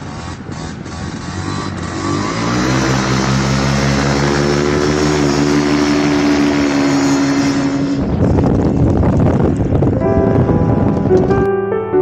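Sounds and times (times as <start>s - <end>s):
paramotor engine throttling up: 0.0s - 9.9s.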